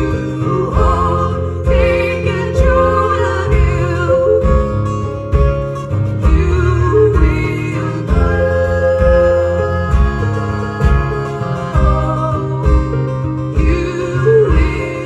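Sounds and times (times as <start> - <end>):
acoustic guitars playing: 0.0 - 15.0
person singing: 0.0 - 15.0.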